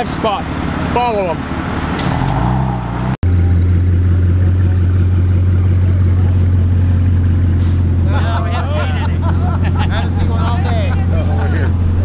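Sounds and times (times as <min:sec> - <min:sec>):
car engine accelerating: 0:00.0 - 0:12.0
car engine low drone: 0:00.0 - 0:12.0.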